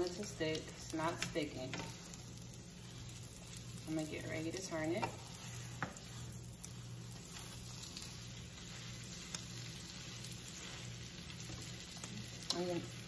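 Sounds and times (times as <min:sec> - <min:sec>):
omelette sizzling in frying pan: 0:00.0 - 0:13.0.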